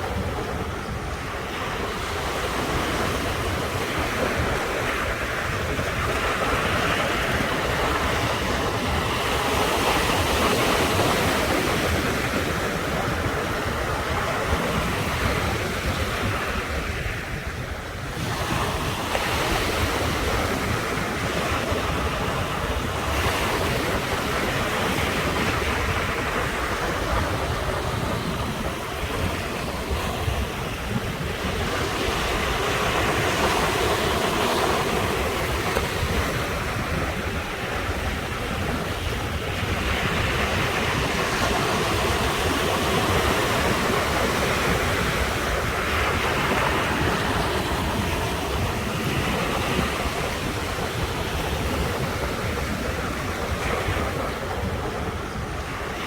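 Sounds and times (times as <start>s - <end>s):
ocean waves breaking on rocks: 0.0s - 56.0s
wind buffeting microphone: 0.0s - 56.0s.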